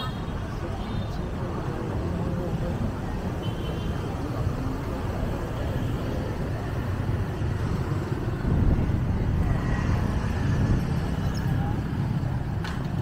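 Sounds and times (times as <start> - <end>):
motorbikes and cars passing: 0.0 - 13.0.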